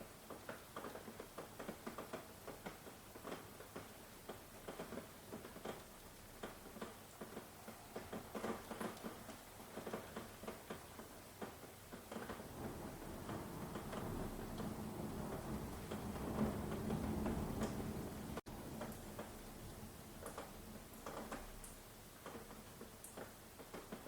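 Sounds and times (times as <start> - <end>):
raindrops tapping a surface: 0.0 - 24.0.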